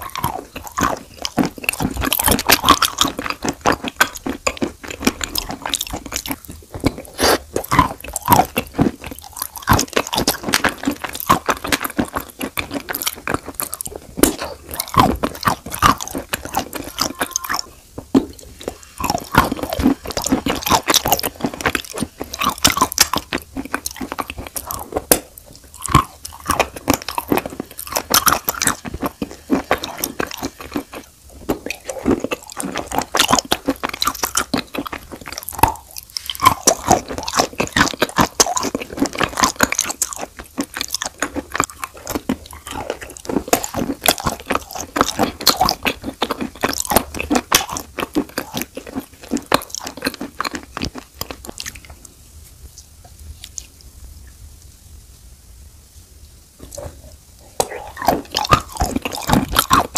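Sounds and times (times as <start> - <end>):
crunching and chewing chalk: 0.0 - 54.4, 56.6 - 59.9.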